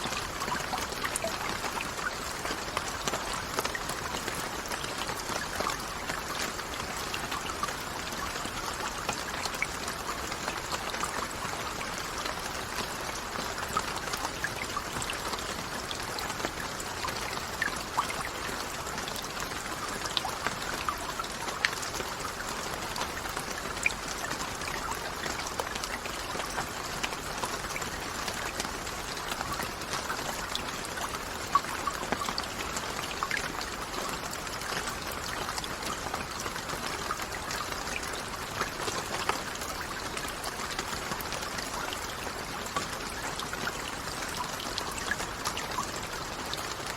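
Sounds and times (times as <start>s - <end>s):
raindrop ticks: 0.0s - 46.9s
steady rain hiss: 0.0s - 46.9s.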